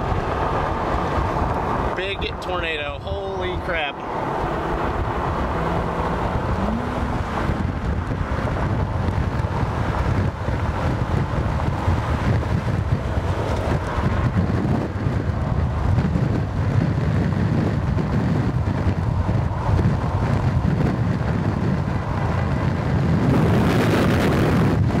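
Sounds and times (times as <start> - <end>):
strong wind buffeting microphone: 0.0 - 25.0.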